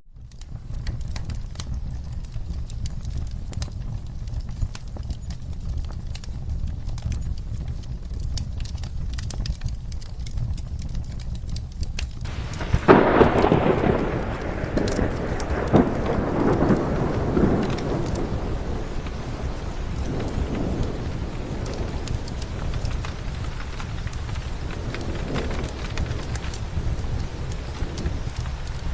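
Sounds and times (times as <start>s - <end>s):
fireplace crackles: 0.1s - 28.9s
steady rain: 0.1s - 28.9s
thunderclap rumbling: 0.1s - 28.9s.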